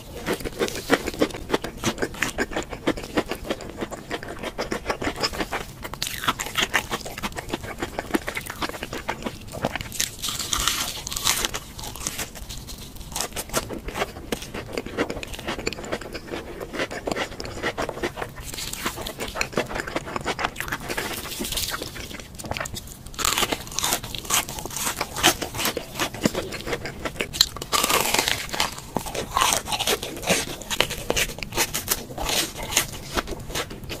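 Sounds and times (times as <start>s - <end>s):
crunching and chewing fried food: 0.0s - 34.0s.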